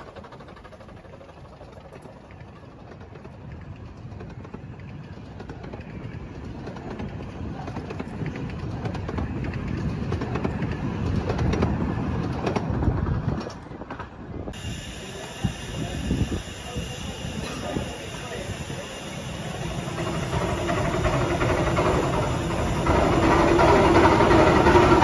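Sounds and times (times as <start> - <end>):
steam locomotive exhaust beats: 0.0 - 25.0.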